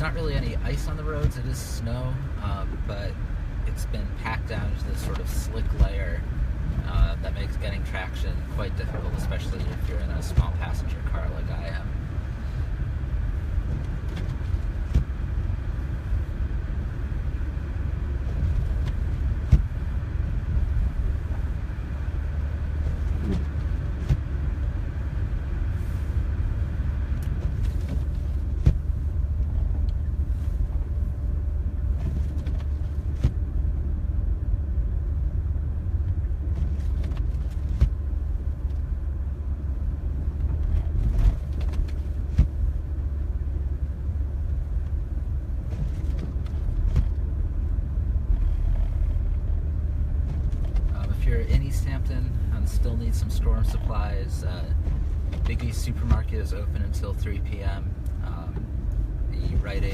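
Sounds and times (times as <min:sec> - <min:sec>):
engine and tyres rumbling: 0:00.0 - 0:59.9.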